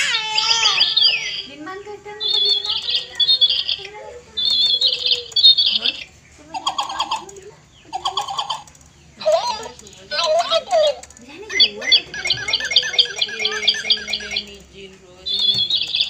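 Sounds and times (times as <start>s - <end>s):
toy bird chirping: 0.0s - 16.0s.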